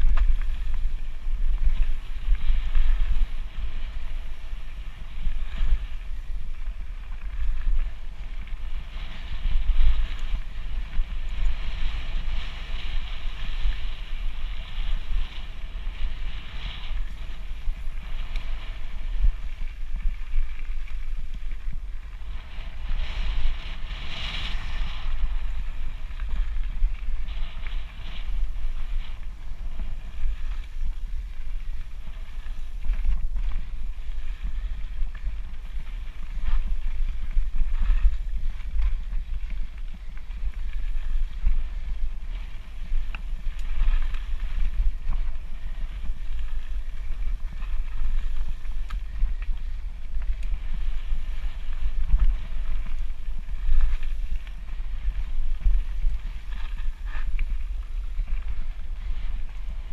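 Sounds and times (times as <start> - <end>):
bike clicks and rattles: 0.0 - 59.9
wind buffeting microphone: 0.0 - 59.9.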